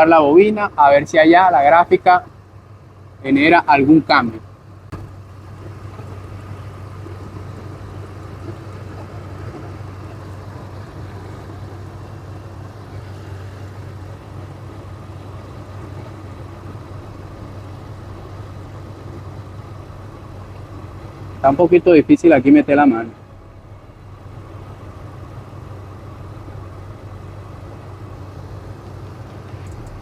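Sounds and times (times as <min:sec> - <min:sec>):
misfiring engine idling: 0:00.0 - 0:30.0.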